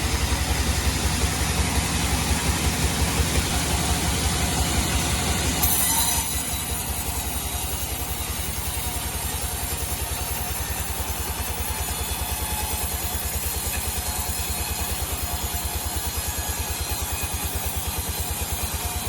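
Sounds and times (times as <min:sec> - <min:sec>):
sawmill machinery running: 0:00.0 - 0:19.0.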